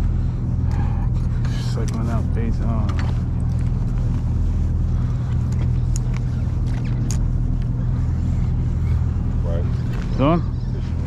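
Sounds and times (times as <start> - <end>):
boat engine low drone: 0.0 - 11.0.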